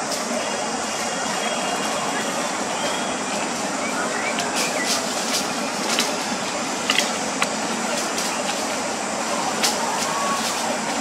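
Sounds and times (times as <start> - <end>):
forest background hiss: 0.0 - 11.0
dry leaves and twigs crackling: 0.1 - 11.0.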